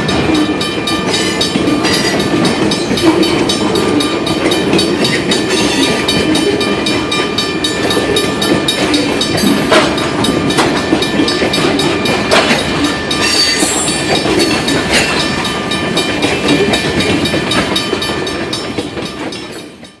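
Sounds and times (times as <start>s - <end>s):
high ringing from wheels: 0.0s - 20.0s
railroad cars rumbling past: 0.0s - 20.0s
wheels clicking over rail joints: 0.0s - 20.0s.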